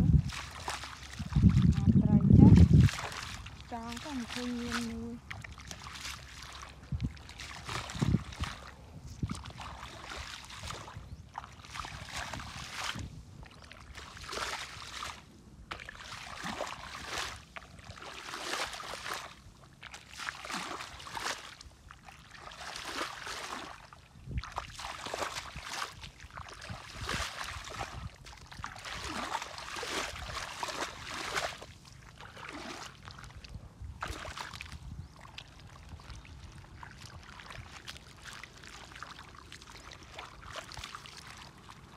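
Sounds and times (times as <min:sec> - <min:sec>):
feet wading in muddy water: 0:00.0 - 0:41.9.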